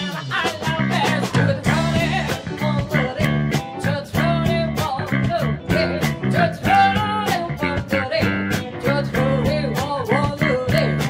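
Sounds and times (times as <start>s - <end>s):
live blues-rock band: 0.0s - 11.0s
woman singing: 0.0s - 11.0s.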